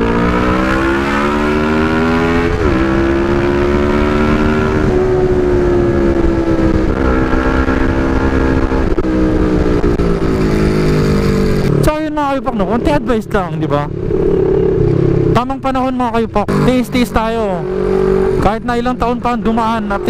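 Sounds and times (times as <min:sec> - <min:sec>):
low wind rumble: 0:00.0 - 0:20.0.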